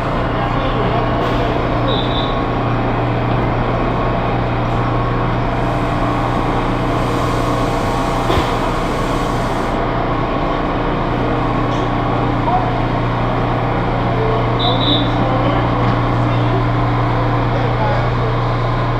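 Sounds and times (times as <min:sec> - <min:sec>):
subway train running: 0:00.0 - 0:18.9.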